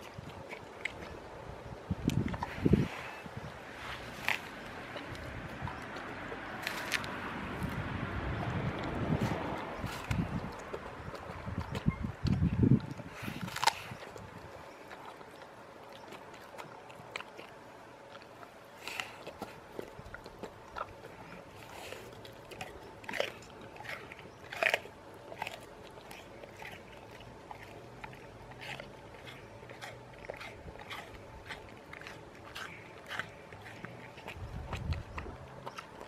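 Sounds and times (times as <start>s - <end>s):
dog crunching apple: 0.0s - 36.0s.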